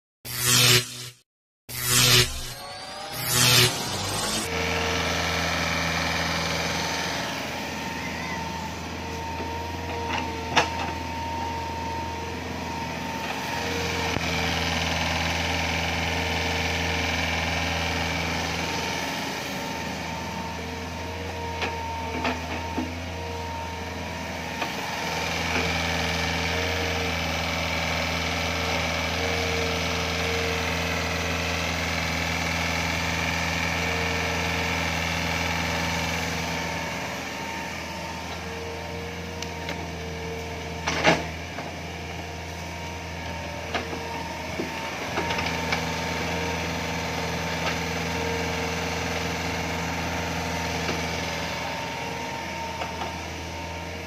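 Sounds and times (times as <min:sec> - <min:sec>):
diesel excavator engine running: 0:03.8 - 0:54.0.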